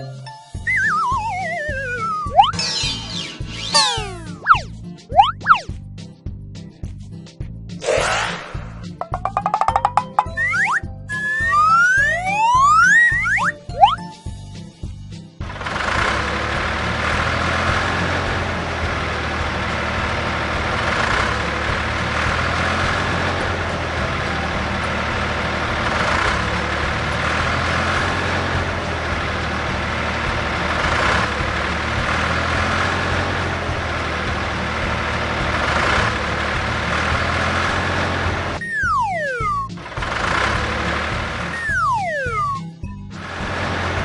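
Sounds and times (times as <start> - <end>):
truck engine running: 0.6 - 7.2, 8.4 - 44.0.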